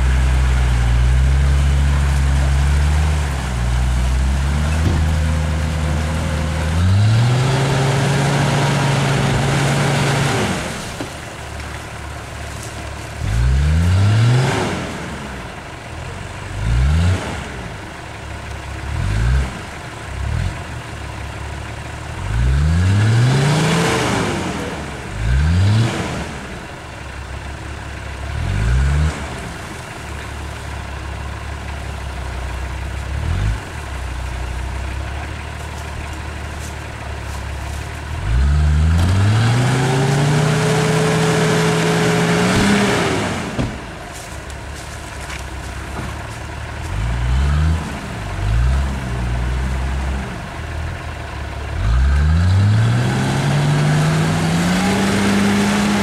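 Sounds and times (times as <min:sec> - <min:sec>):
engine revving and idling: 0:00.0 - 0:56.0.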